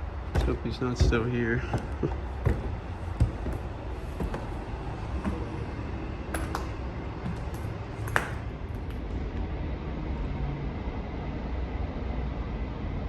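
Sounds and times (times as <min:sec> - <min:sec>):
passing train rumble: 0:00.0 - 0:13.0.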